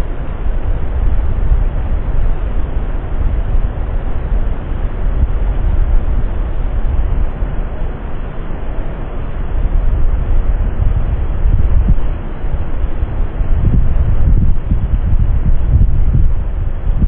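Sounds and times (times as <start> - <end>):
low rumbling noise: 0.0 - 17.0.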